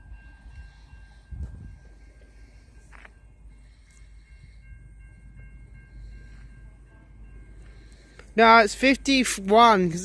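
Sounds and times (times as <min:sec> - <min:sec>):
locomotive low rumble: 0:00.0 - 0:08.6.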